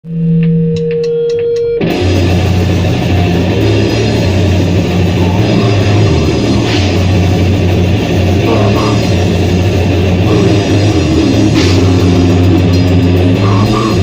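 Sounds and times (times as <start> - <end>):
distorted guitar and bass: 0.0 - 14.0
droning guitar tone: 0.1 - 14.0.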